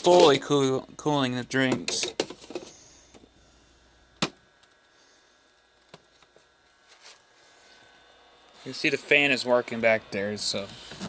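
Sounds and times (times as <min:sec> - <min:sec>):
fridge cooling fan running: 0:00.0 - 0:11.0.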